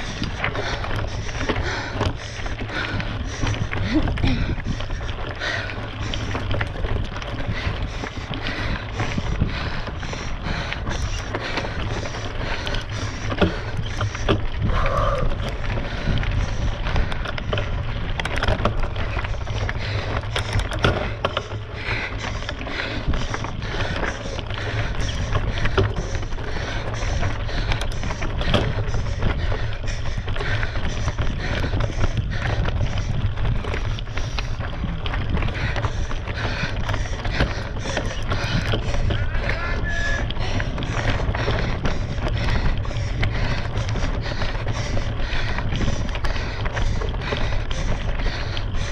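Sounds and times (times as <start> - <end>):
bike tyres rattling on stones: 0.0 - 48.9
wind rumbling on microphone: 0.0 - 48.9.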